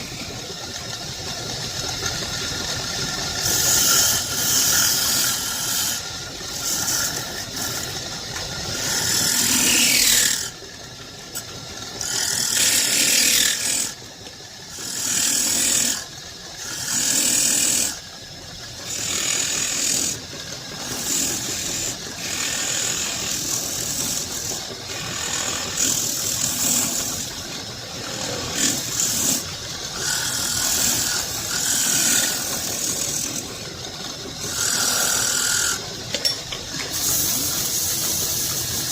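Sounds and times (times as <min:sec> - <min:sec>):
woodworking tool rasping wood: 0:02.1 - 0:14.1, 0:14.7 - 0:18.0, 0:18.9 - 0:36.0, 0:36.7 - 0:38.9.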